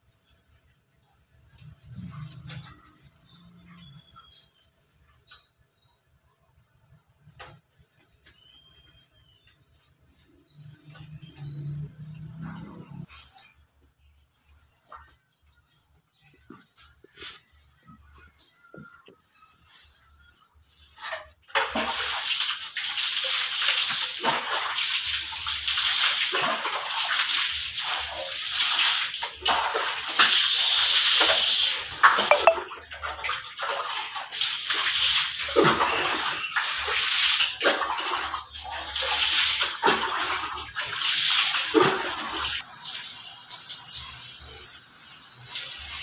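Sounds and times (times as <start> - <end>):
water running and splashing: 0.0 - 5.4, 7.2 - 46.0.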